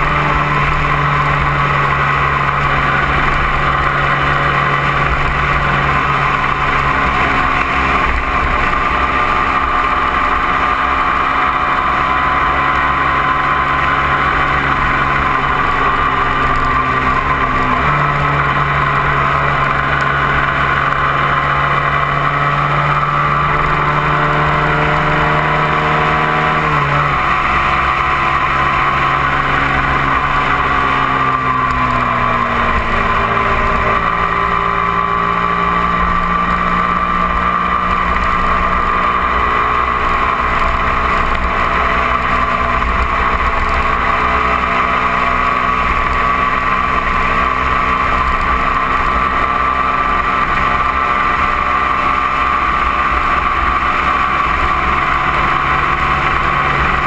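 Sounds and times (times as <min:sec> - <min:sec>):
motorcycle engine at speed: 0:00.0 - 0:57.0
wind and road noise: 0:00.0 - 0:57.0.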